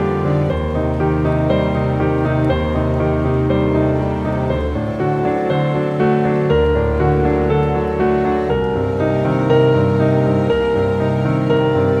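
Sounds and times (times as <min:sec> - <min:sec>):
gentle slow instrumental music: 0:00.0 - 0:12.0.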